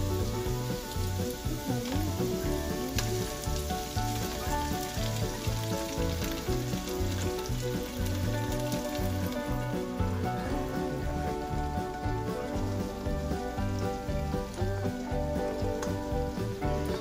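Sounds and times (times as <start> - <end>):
background music with steady beat: 0.0 - 17.0
eggs sizzling in hot oil: 0.0 - 17.0.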